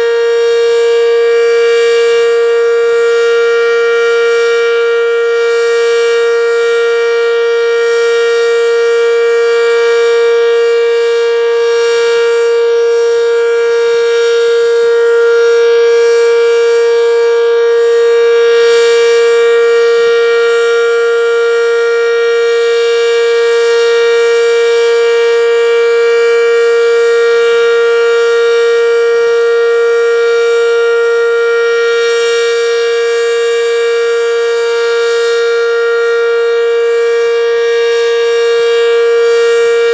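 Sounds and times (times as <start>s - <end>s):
electric warning siren steady tone: 0.0s - 39.9s.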